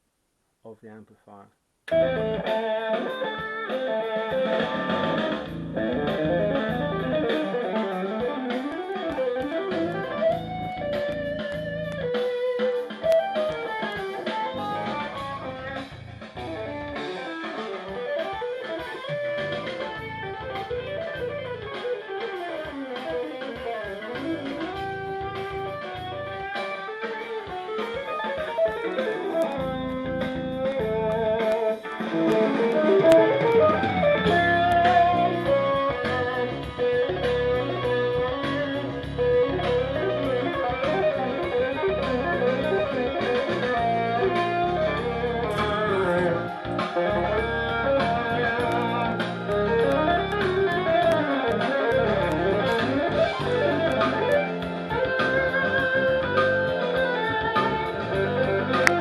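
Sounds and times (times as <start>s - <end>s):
guitar music through amplifier: 1.9s - 59.0s.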